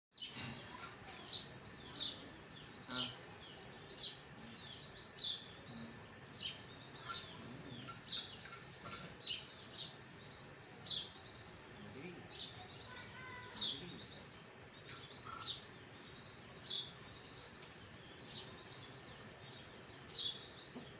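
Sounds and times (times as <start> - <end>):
birds chirping: 0.1 - 20.9.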